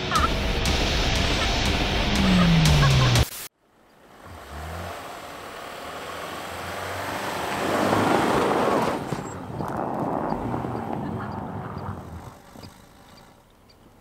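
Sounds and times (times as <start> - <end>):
car engine running under load: 1.3 - 14.0
tyres churning snow: 2.0 - 14.0.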